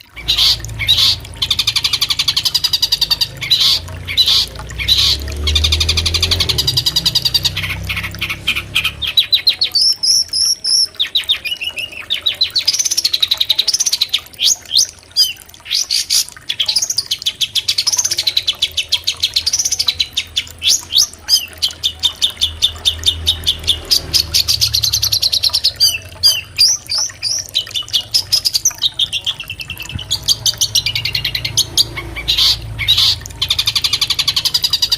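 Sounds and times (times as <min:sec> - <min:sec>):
bird chattering song: 0:00.0 - 0:34.9.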